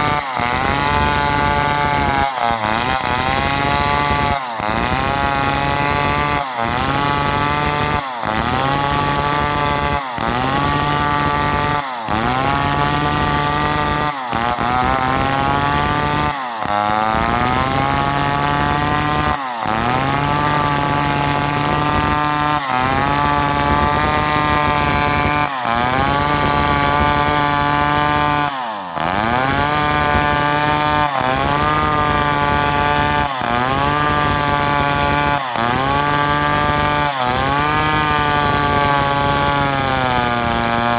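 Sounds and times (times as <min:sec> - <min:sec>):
chainsaw machine pitch dropping: 0:00.0 - 0:40.9.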